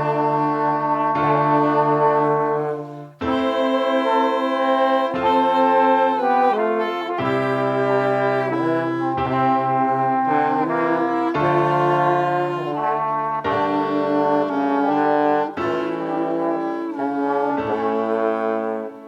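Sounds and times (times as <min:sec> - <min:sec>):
brass instruments playing slow chords: 0:00.0 - 0:19.0.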